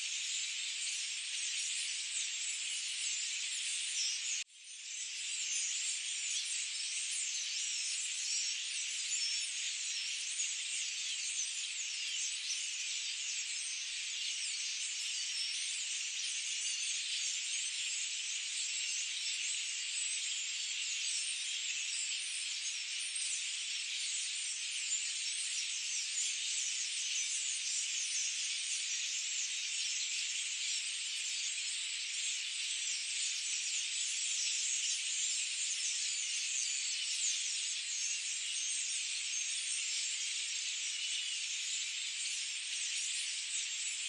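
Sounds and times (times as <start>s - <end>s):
chorus of birds chirping: 0.0s - 44.0s.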